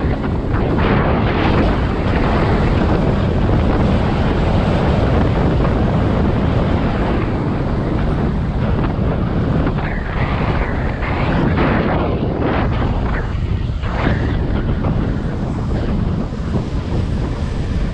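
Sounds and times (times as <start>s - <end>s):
wind rumbling on microphone: 0.0s - 17.9s.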